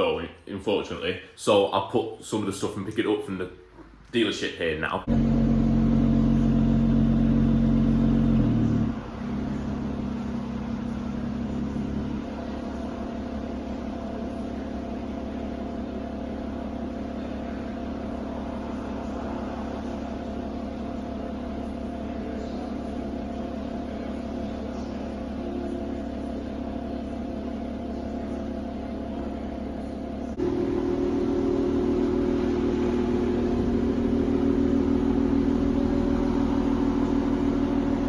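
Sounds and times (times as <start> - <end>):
car engine idling: 5.0 - 38.0.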